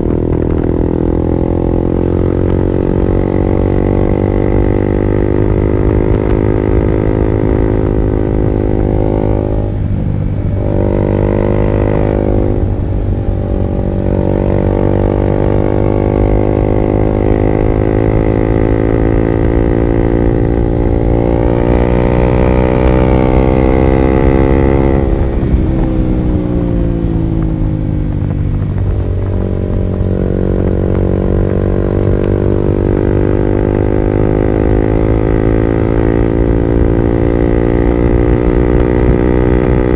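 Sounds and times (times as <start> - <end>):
motorcycle engine pulling away: 0.0 - 39.9.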